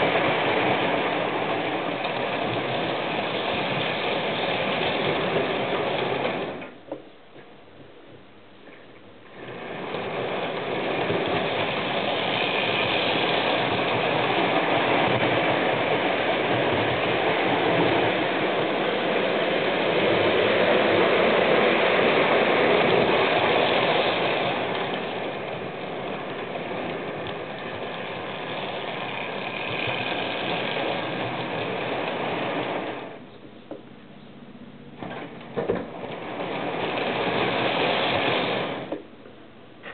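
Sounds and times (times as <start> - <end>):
model train motor whirring: 0.0 - 6.8, 9.3 - 33.2, 35.0 - 39.1
wheels rattling over rail joints: 0.0 - 39.9.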